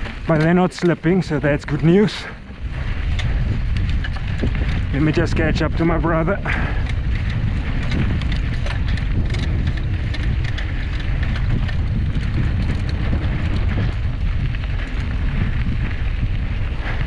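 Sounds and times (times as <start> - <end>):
small clicks and rattles: 0.0 - 16.3
wind buffeting microphone: 0.0 - 17.0.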